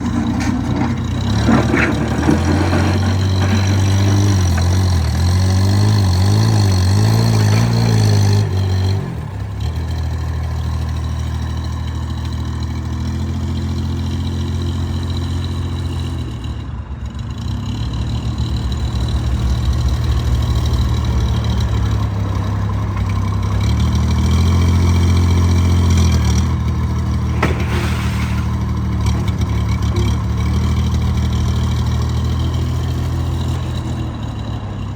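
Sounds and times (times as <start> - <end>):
backhoe loader engine running: 0.0 - 34.9.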